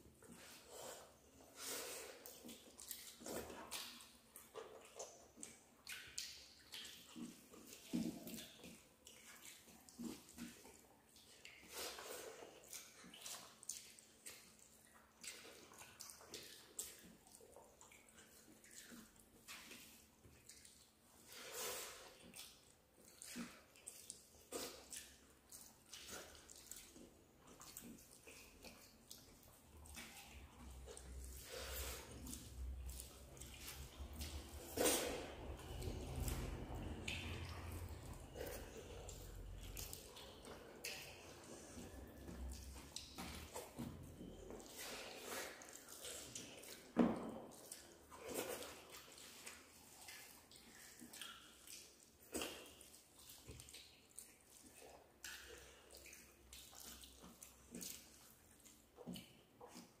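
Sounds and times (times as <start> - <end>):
wet eating sounds: 0.0 - 60.0.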